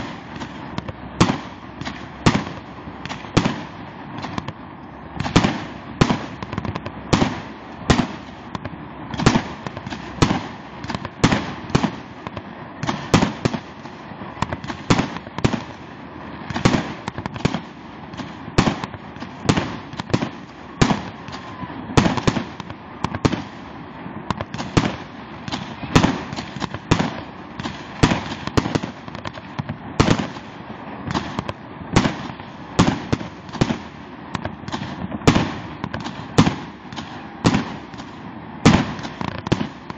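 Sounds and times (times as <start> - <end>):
distant fireworks din: 0.0 - 39.9
fireworks bursting with bangs: 0.0 - 39.9.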